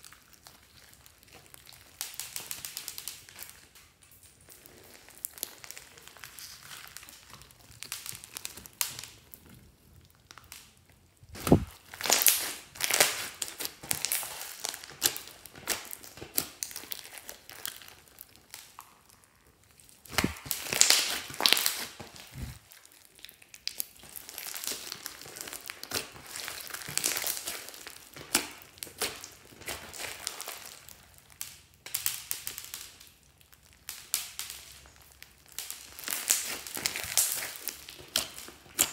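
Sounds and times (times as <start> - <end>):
slime squelching and crackling: 0.0 - 38.9.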